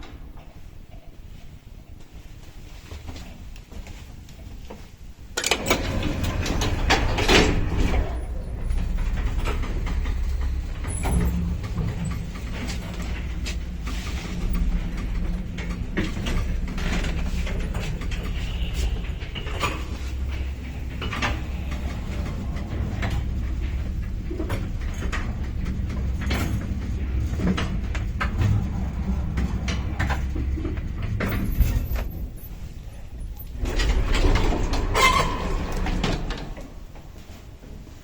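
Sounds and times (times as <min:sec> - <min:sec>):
creaks and knocks of lift car: 0:05.4 - 0:37.2
lift car humming: 0:05.4 - 0:38.0.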